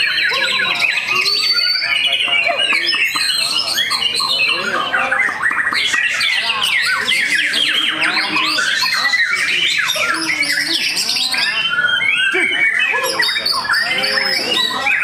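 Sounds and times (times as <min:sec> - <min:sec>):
bird singing whistled notes: 0:00.0 - 0:15.0.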